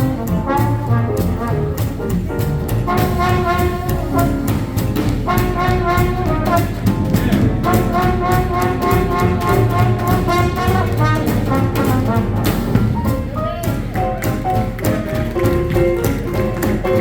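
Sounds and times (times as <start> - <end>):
swing jazz band playing: 0.0 - 17.0.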